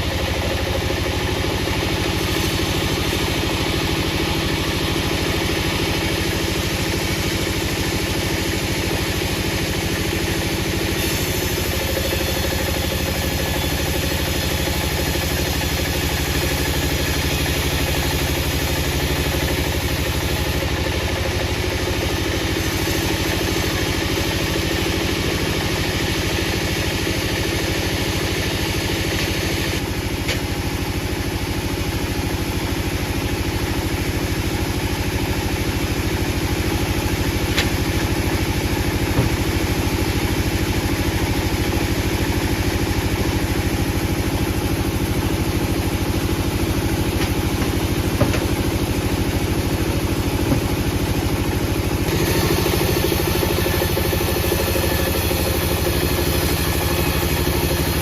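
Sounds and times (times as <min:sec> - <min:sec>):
heavy machine humming: 0:00.0 - 0:58.0.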